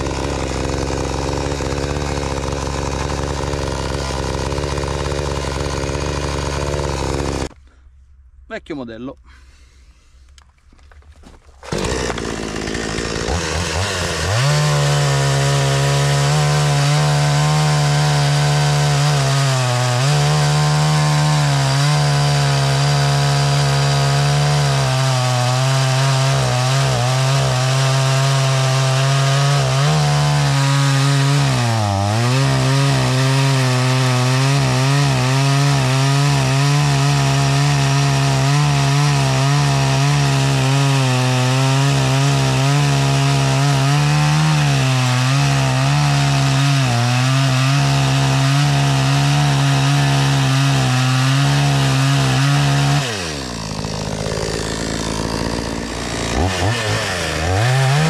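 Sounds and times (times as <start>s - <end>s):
chainsaw cutting log: 0.0s - 7.7s, 11.2s - 58.0s.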